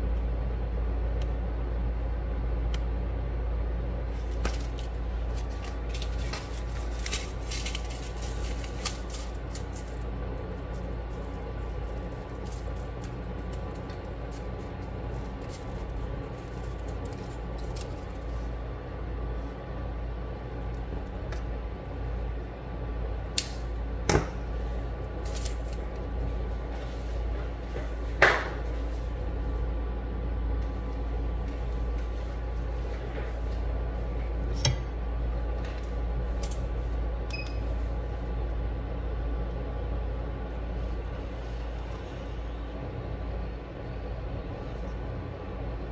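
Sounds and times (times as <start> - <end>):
steady electrical hum: 0.0 - 45.9.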